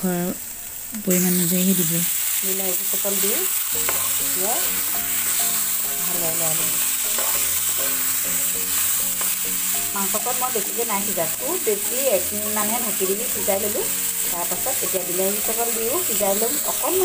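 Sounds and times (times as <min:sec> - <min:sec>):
food sizzling in hot oil: 0:00.0 - 0:17.0
spatula stirring food: 0:02.7 - 0:17.0.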